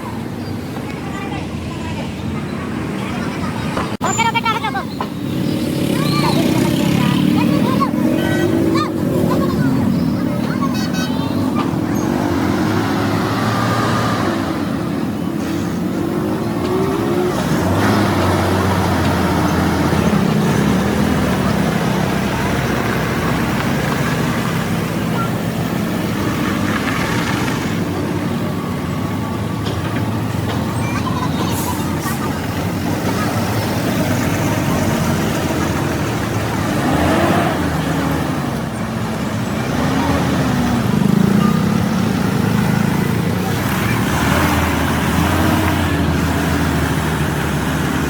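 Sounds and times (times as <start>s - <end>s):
heavy truck engine running: 0.0s - 48.0s.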